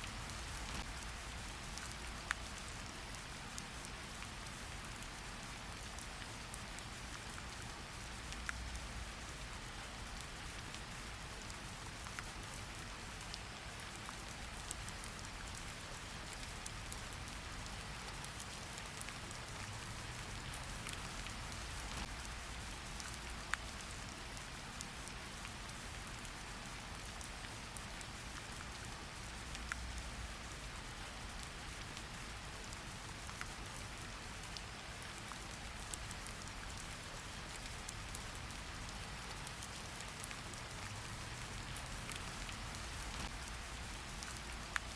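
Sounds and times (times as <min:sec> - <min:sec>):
steady rain patter: 0:00.0 - 0:44.9.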